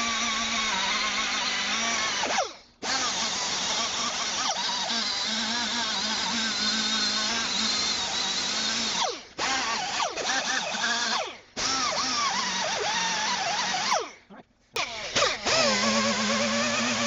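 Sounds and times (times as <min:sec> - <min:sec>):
power drill running: 0:00.0 - 0:14.2, 0:14.8 - 0:17.0.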